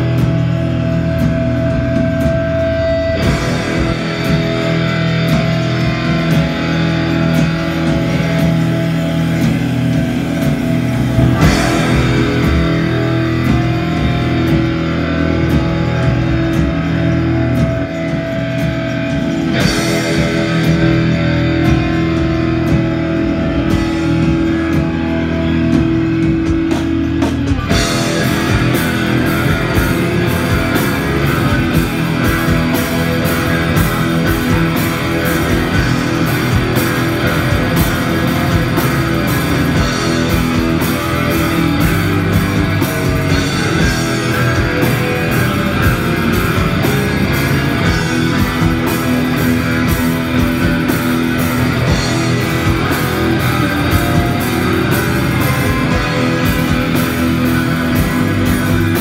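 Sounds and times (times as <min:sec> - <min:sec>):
distorted electric guitars: 0:00.0 - 0:59.0
fast drumming with cymbals: 0:00.0 - 0:59.0.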